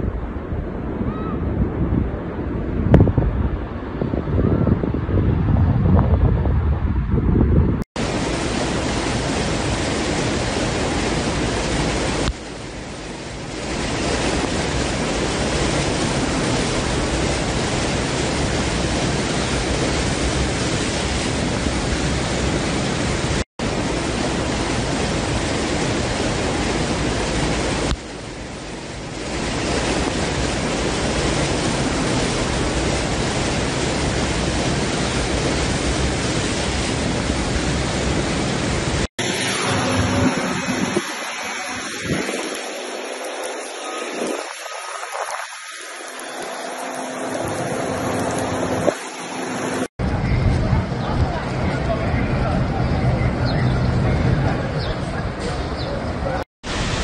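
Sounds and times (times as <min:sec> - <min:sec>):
heavy rain rushing: 0:08.0 - 0:55.5, 0:56.1 - 0:57.0.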